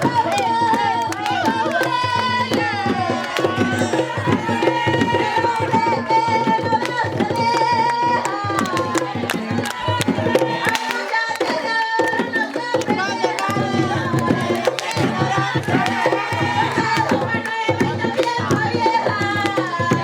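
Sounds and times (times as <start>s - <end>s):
hand drums beating: 0.0s - 20.0s
person singing: 0.0s - 20.0s.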